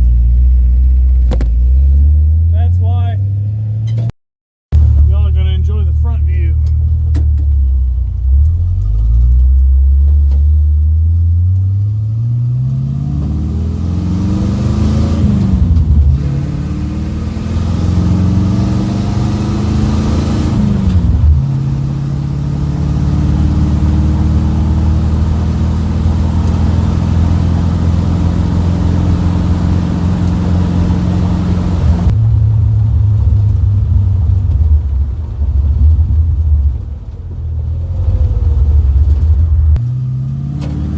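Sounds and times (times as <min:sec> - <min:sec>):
car engine revving: 0:00.0 - 0:04.1, 0:04.7 - 0:40.9.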